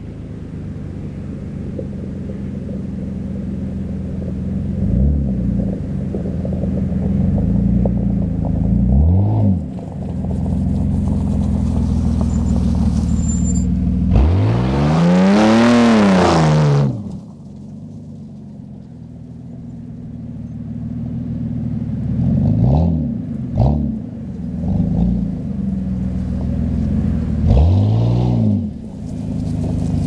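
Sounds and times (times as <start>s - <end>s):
car engine rumbling and revving: 0.0s - 30.0s.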